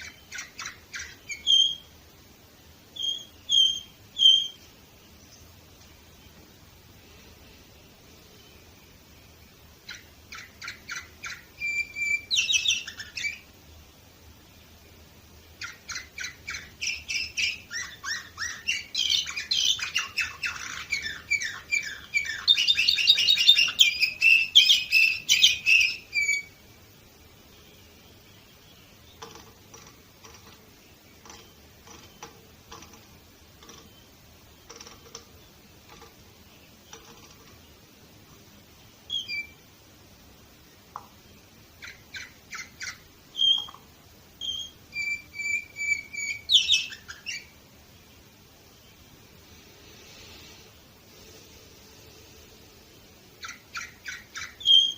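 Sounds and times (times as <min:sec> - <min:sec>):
canary singing trills: 0:00.0 - 0:06.4, 0:07.9 - 0:13.6, 0:15.4 - 0:37.9, 0:38.6 - 0:39.8, 0:41.0 - 0:49.2, 0:53.2 - 0:54.9.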